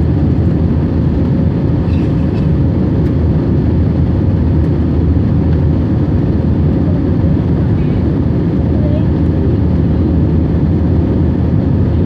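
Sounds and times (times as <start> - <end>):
jet engines roaring at takeoff: 0.0 - 12.0.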